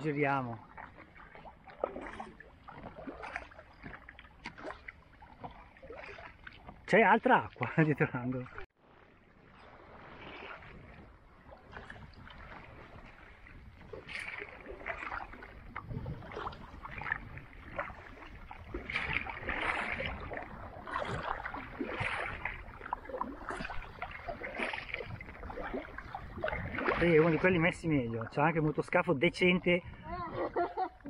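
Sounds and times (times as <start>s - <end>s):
paddle strokes splashing water: 0.0s - 31.0s.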